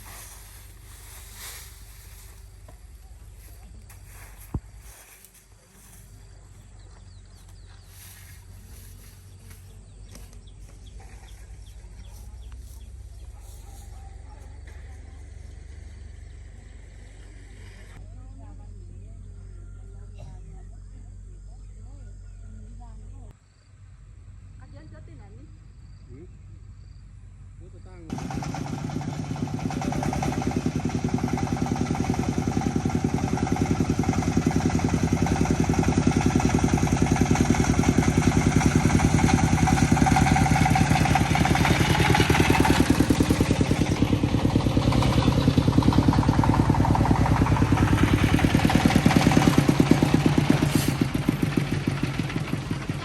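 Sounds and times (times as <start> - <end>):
single-cylinder diesel engine running: 0.0 - 23.3, 27.4 - 53.0.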